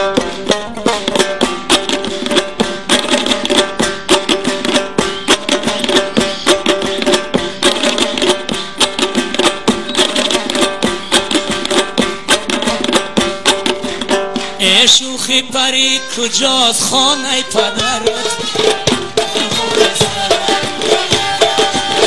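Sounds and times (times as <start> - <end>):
fast drum rhythm: 0.0 - 22.0
plucked string melody: 0.0 - 22.0.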